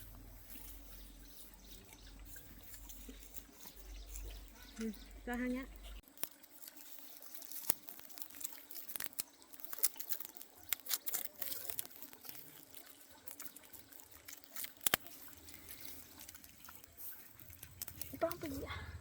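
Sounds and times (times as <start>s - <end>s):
water splashing and dripping: 0.5s - 18.8s.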